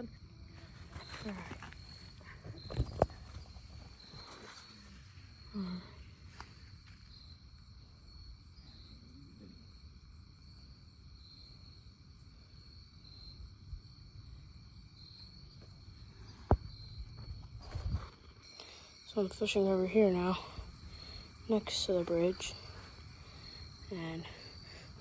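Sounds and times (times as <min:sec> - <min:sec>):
insects chorus: 0:00.0 - 0:25.0.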